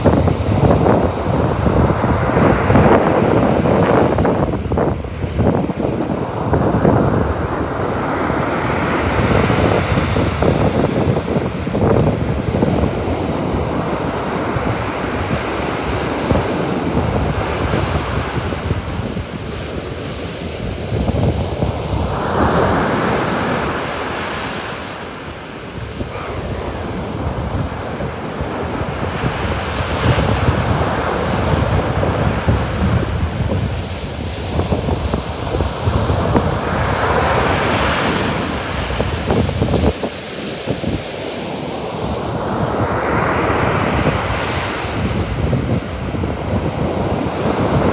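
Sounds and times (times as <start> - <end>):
surf breaking on a beach: 0.0 - 47.9
wind buffeting microphone: 0.0 - 47.9.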